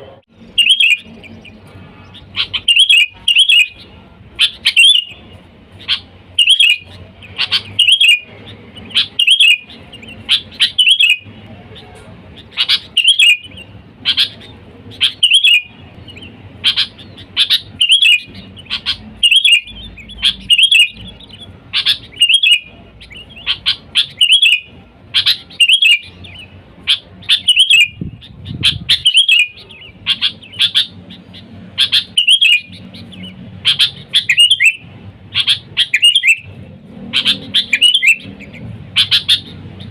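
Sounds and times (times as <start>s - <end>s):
bulbul chirping calls: 0.0s - 39.9s.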